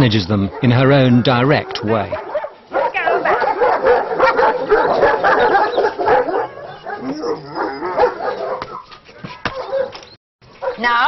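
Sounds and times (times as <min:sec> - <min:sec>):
dogs barking and yelping: 0:00.4 - 0:11.0.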